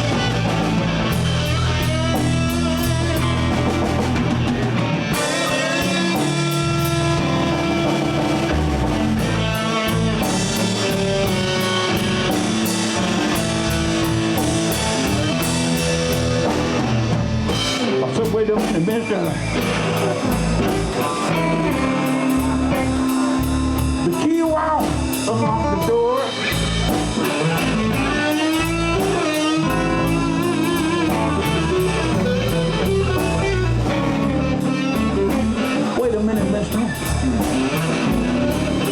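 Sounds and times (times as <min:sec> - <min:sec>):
bass guitar: 0:00.0 - 0:38.9
drum kit: 0:00.0 - 0:38.9
electric guitar lead: 0:00.0 - 0:38.9.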